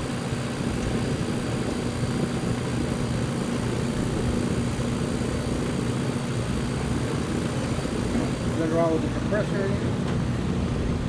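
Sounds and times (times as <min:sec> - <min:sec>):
air conditioner unit running: 0:00.0 - 0:11.0.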